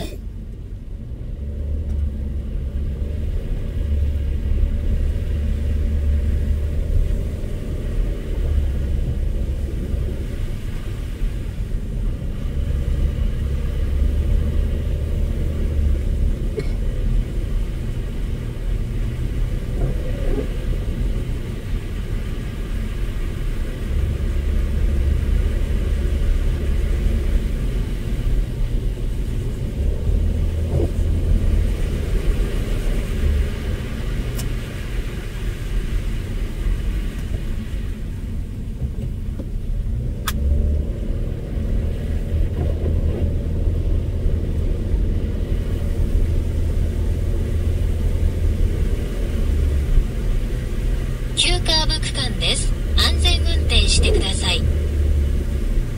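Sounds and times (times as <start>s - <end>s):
car engine and tyres rumbling: 0.0s - 55.9s.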